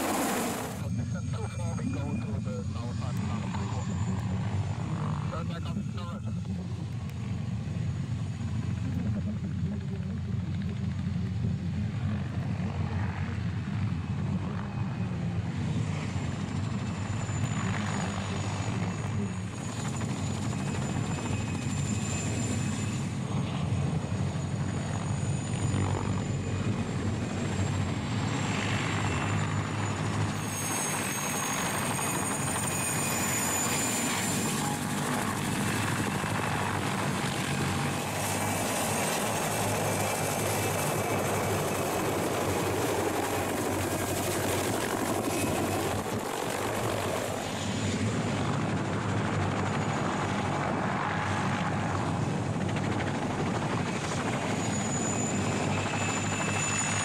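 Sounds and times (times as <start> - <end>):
helicopter engines and rotor: 0.0 - 57.0
high turbine whine: 0.0 - 57.0.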